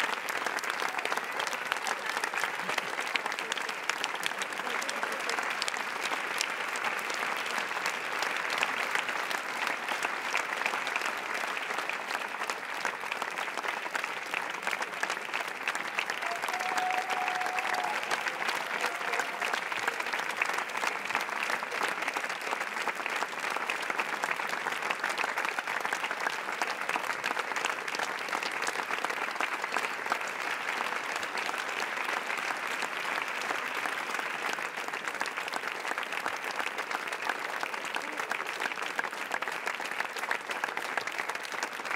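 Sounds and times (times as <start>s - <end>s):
audience applauding: 0.0s - 41.9s.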